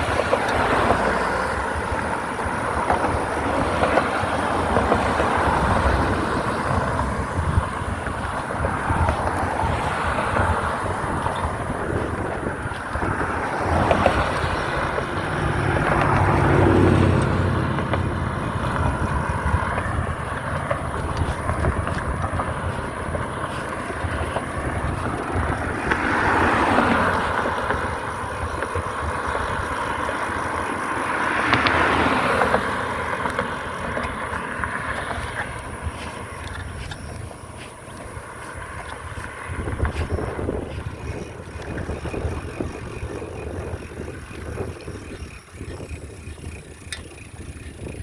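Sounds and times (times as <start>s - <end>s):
vehicles passing: 0.0s - 48.0s
wind rushing over microphone: 0.0s - 48.0s.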